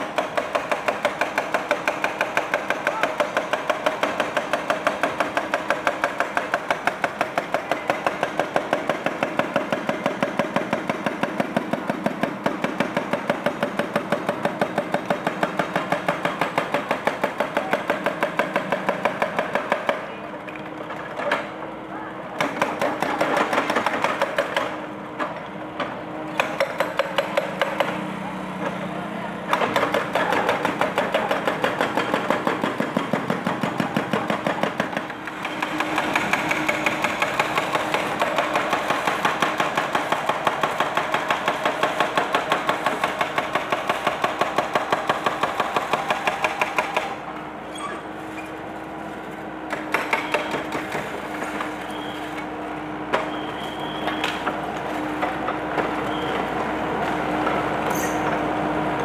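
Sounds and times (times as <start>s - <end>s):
hydraulic breaker hammering concrete: 0.0s - 20.1s, 22.4s - 47.3s, 49.6s - 58.6s.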